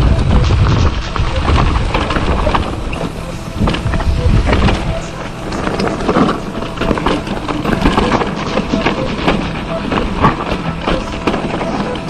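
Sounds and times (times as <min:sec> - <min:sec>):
bike rattling and knocking: 0:00.0 - 0:12.0
tyres crunching over dirt and rocks: 0:00.6 - 0:12.0.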